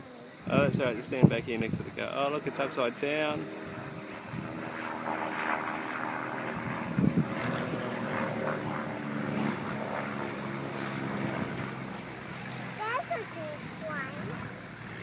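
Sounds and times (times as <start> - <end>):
aircraft engine drone: 0.0 - 15.0.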